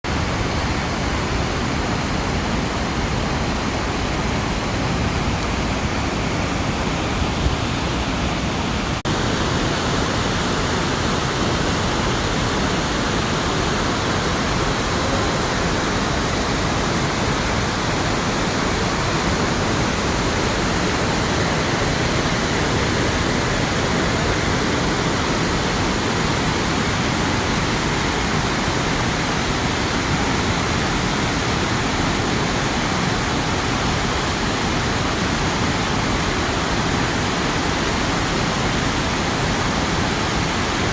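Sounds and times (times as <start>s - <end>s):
waterfall and rapids rushing: 0.0s - 40.9s.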